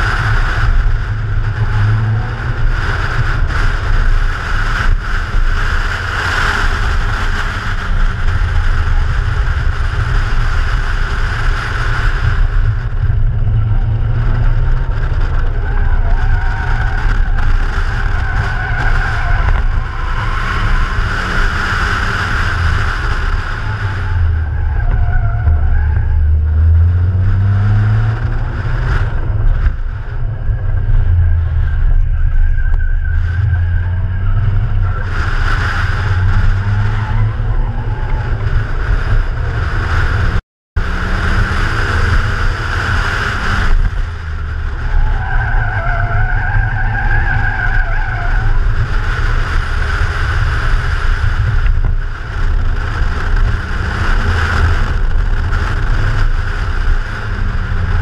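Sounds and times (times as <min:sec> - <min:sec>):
car engine revving hard: 0:00.0 - 0:58.0
wind rumble on microphone: 0:00.0 - 0:58.0.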